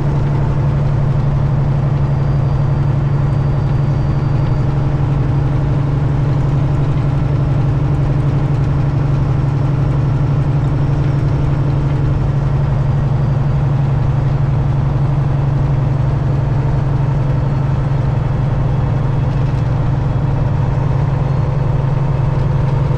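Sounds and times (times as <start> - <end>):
diesel truck engine running: 0.0 - 22.9.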